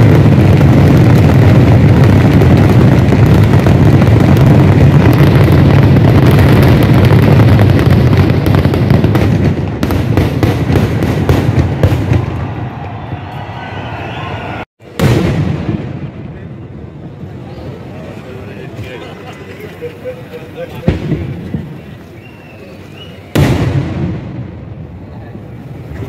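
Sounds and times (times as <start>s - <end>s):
fireworks explosions: 0.0s - 26.0s.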